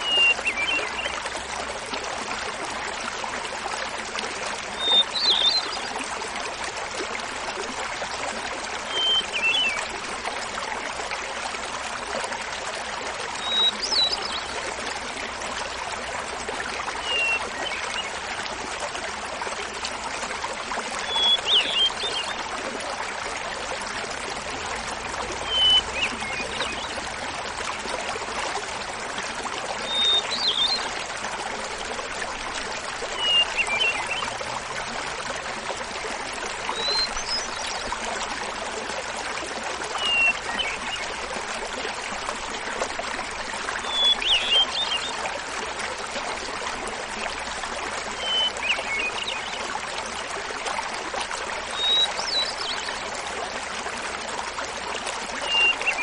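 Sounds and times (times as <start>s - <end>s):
small waterfall babbling: 0.0s - 56.0s.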